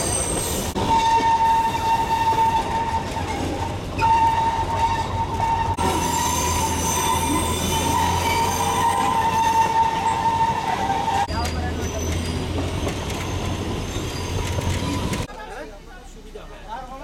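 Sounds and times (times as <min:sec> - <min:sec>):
train wheels squealing on a curve: 0:00.0 - 0:15.3
low rumble of running train: 0:00.0 - 0:17.0.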